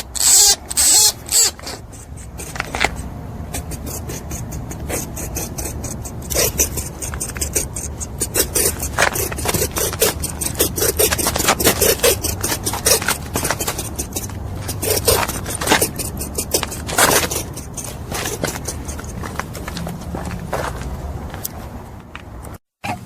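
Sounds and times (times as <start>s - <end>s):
steady low hum: 0.0s - 22.6s
rabbit making rasping clicks: 0.0s - 23.0s.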